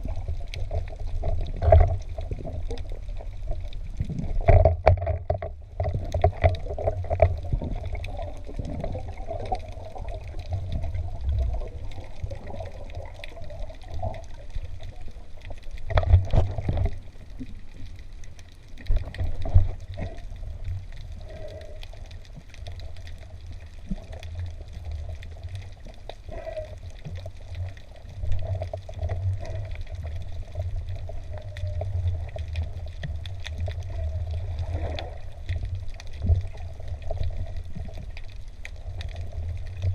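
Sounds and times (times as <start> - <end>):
moving water rumbling: 0.0 - 39.9
faint clicks: 0.1 - 39.9.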